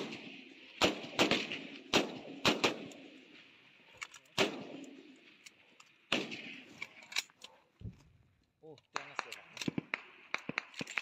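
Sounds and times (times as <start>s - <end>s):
rifle shots echoing: 0.0s - 7.0s, 9.0s - 11.0s.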